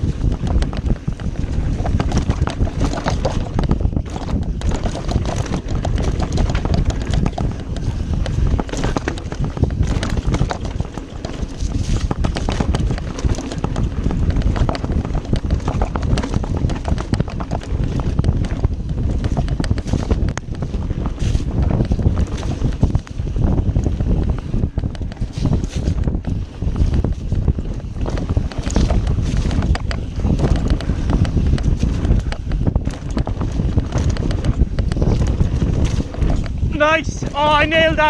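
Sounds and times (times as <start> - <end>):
bike rattling: 0.0 - 38.0
tyres on dirt: 0.0 - 38.0
wind on microphone: 0.0 - 38.0.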